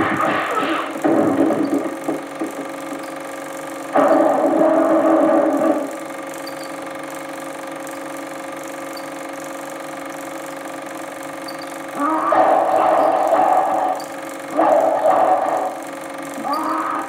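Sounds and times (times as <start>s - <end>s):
film projector mechanical hum: 0.0s - 17.0s.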